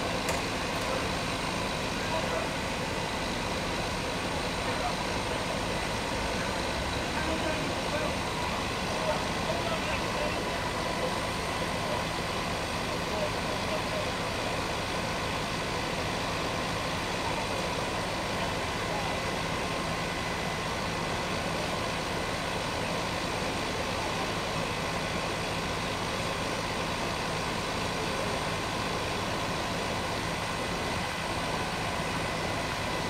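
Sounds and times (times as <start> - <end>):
fire truck engines droning: 0.0 - 33.0.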